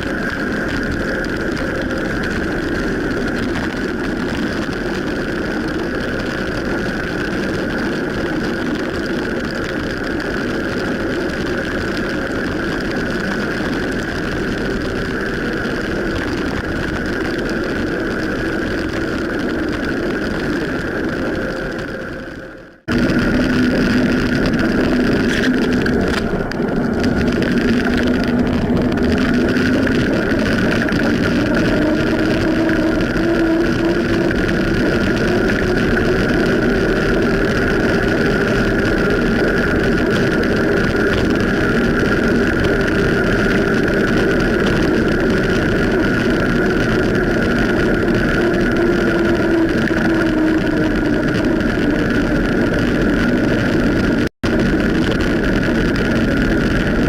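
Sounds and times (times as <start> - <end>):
steady tonal drone: 0.0 - 57.0
wind on microphone: 0.0 - 57.0.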